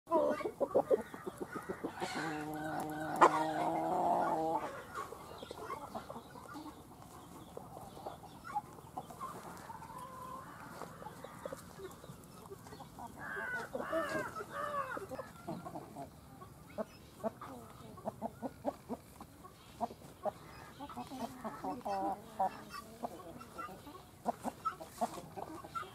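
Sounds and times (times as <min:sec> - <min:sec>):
chicken clucking: 0:00.1 - 0:25.9.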